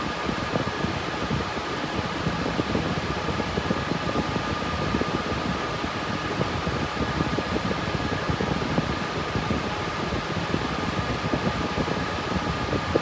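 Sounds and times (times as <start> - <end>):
computer cooling fans whirring: 0.0 - 13.0.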